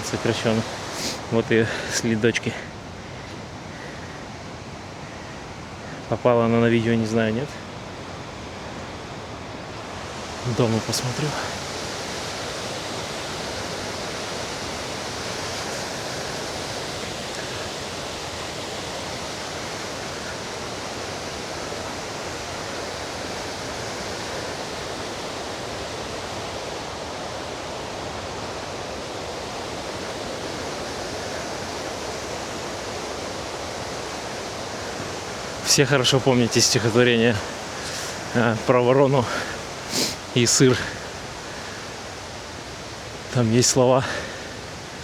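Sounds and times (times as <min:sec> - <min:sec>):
steady rushing noise: 0:00.0 - 0:45.0.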